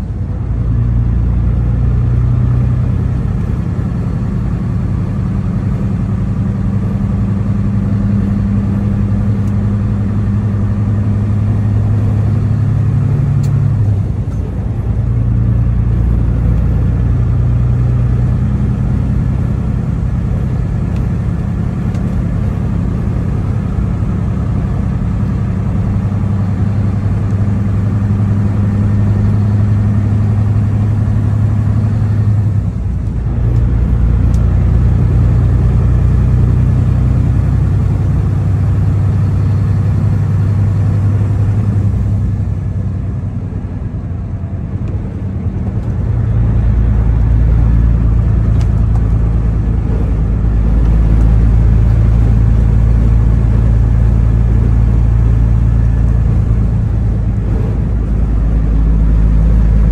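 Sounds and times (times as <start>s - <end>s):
truck diesel engine droning: 0.0s - 59.9s
tyre and road noise: 0.0s - 59.9s.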